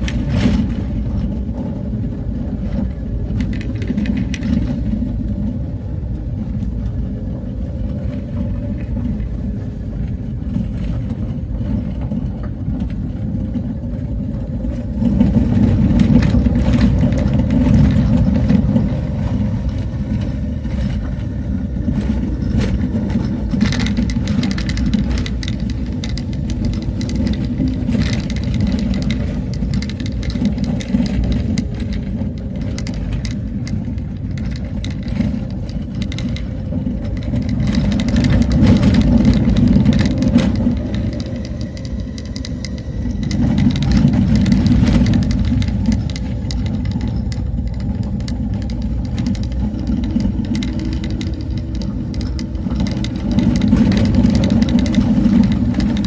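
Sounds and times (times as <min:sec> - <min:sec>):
vehicle engine and road noise: 0:00.0 - 0:56.0
knocks and rattles: 0:10.5 - 0:56.0.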